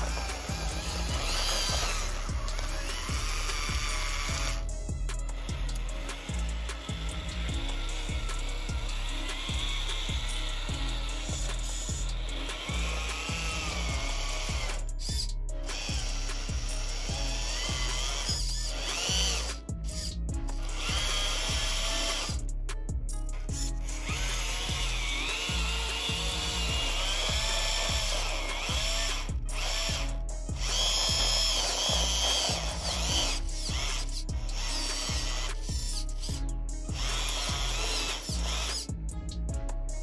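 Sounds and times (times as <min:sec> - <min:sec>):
electric gear motors whining: 0:00.0 - 0:22.5, 0:23.3 - 0:39.4.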